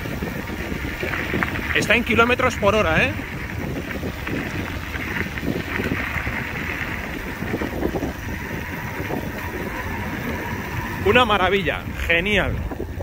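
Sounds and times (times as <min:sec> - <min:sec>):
tyres rumbling on gravel: 0:00.0 - 0:13.0
wind rush on microphone: 0:00.0 - 0:13.0.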